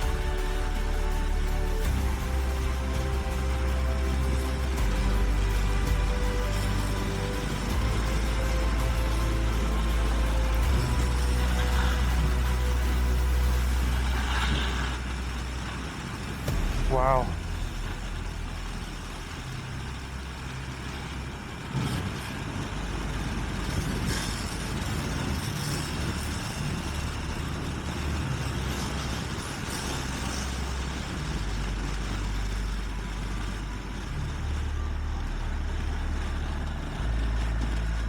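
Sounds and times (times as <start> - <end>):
motorcycle engine running: 0.0 - 38.0
wind noise on microphone: 0.0 - 38.0.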